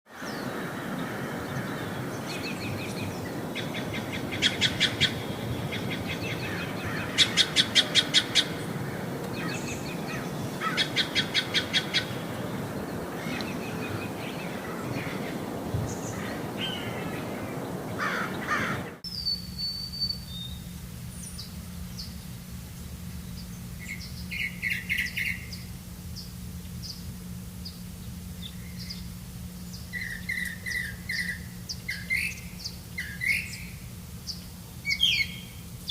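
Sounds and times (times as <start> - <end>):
birds calling and chirping: 0.1 - 22.4, 23.1 - 35.9.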